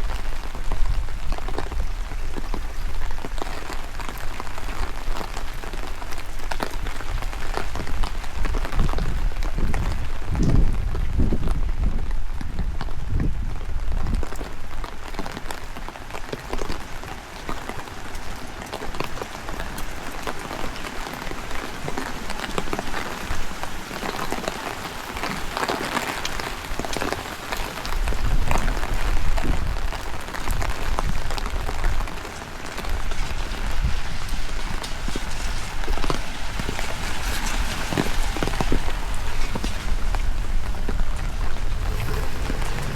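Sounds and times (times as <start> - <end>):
steady rain falling: 0.0 - 42.9
wind rumbling on microphone: 0.0 - 42.9.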